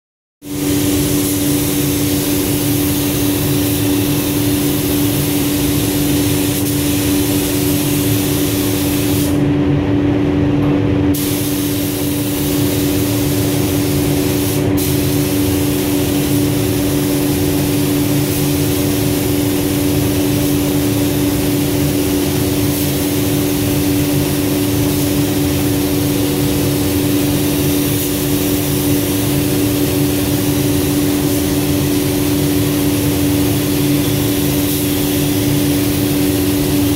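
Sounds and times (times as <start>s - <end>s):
paint spray gun hissing: 0.4s - 9.4s, 11.2s - 36.9s
steady mechanical hum: 0.4s - 36.9s.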